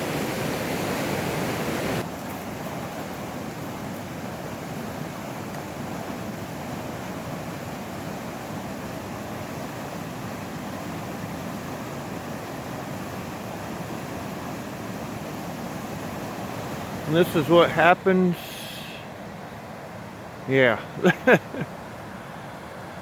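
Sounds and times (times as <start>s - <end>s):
rushing creek falls: 0.0s - 23.0s.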